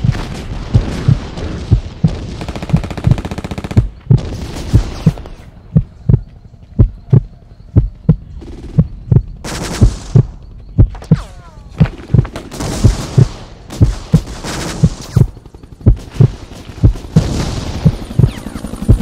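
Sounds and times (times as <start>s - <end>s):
battle noise gunfire and blasts: 0.0s - 6.1s, 8.3s - 19.0s
pounding heartbeat: 0.0s - 11.2s, 11.8s - 19.0s.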